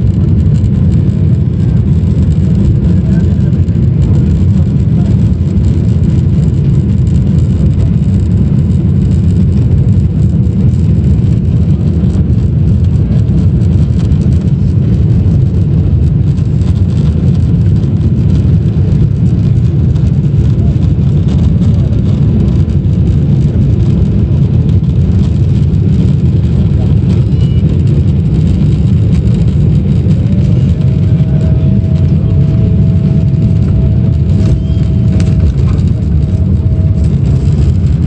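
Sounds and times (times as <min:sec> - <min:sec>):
airliner cabin low rumble: 0:00.0 - 0:38.0.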